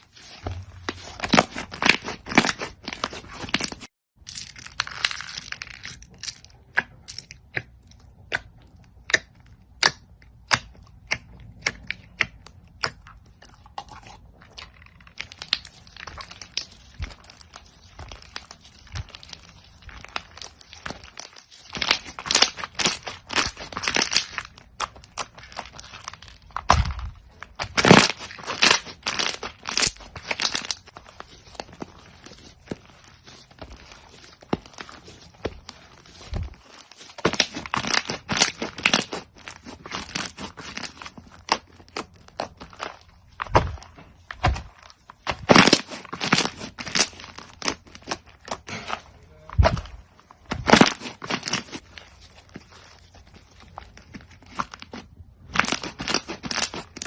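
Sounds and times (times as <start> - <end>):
crunchy slime crackling: 0.0 - 57.0.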